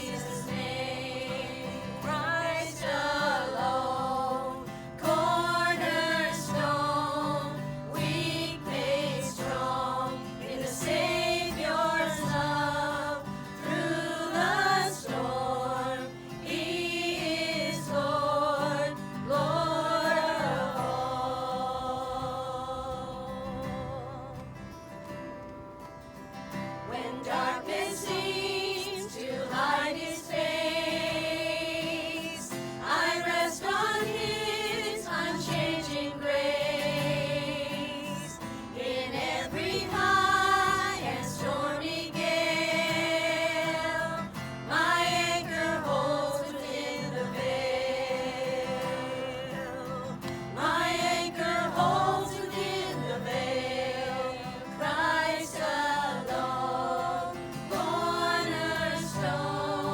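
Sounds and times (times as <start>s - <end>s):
voices singing a hymn: 0.0s - 59.9s.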